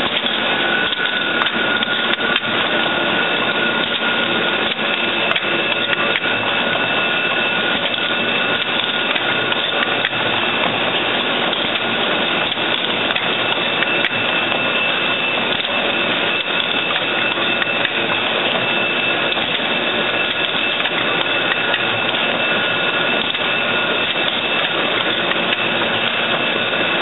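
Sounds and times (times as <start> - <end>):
high machine whine: 0.0 - 27.0
machine clatter of small clicks: 0.0 - 27.0.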